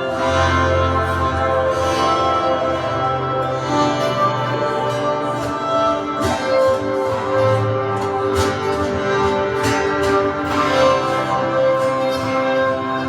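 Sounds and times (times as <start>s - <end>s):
instrumental worship music: 0.0s - 13.0s.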